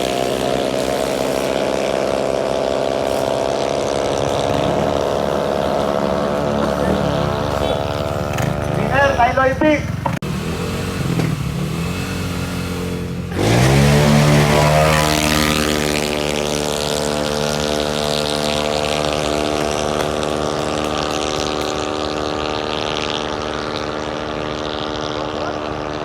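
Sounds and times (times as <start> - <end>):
scooter engines revving high: 0.0 - 26.0.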